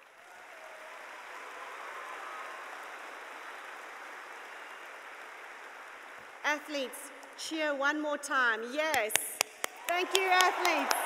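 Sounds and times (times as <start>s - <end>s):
audience applauding and cheering: 0.0s - 7.4s, 9.0s - 11.0s.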